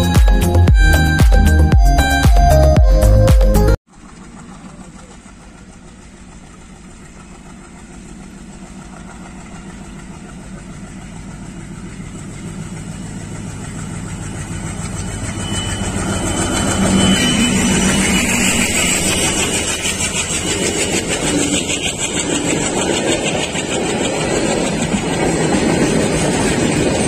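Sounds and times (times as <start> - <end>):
diesel locomotive engine: 0.0 - 27.0
wheels rumbling on rails: 3.9 - 27.0.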